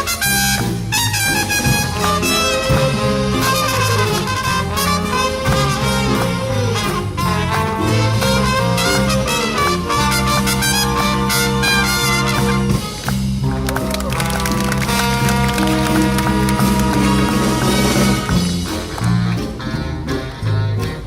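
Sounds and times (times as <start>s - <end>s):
big band playing jazz: 0.0s - 21.0s
walking bass line: 0.0s - 21.0s.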